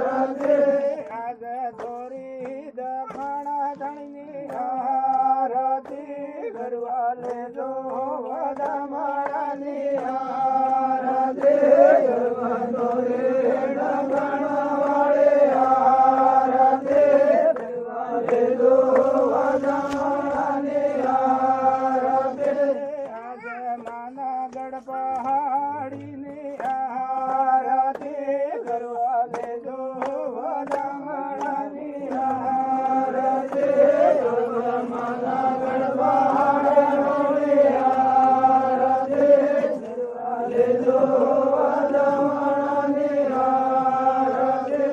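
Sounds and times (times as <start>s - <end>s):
voices chanting devotional song: 0.0s - 44.9s.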